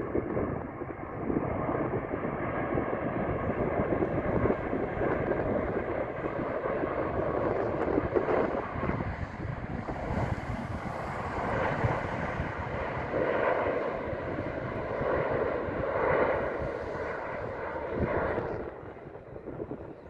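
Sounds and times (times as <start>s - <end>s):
jet engines rushing with whine: 0.0s - 20.0s.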